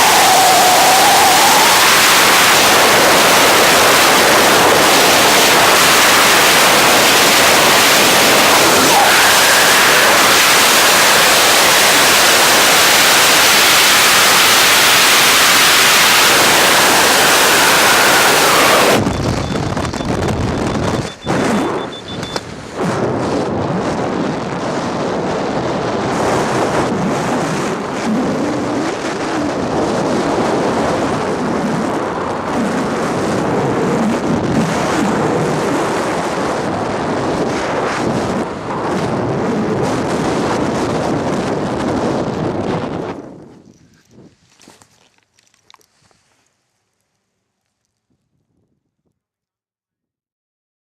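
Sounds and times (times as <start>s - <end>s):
freefall wind roar: 0.0s - 44.8s
gusting wind noise: 0.0s - 46.4s.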